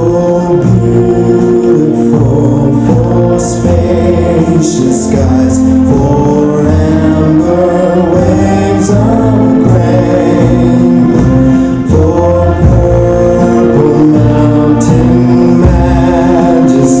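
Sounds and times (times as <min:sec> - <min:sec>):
song with long held notes: 0:00.0 - 0:17.0.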